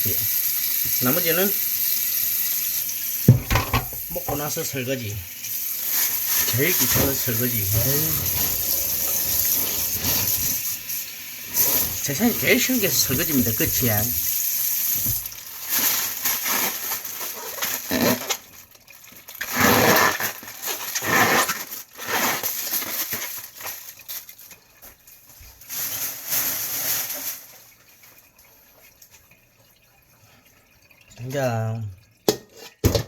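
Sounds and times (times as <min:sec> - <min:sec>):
tap water running into sink: 0:00.0 - 0:33.0.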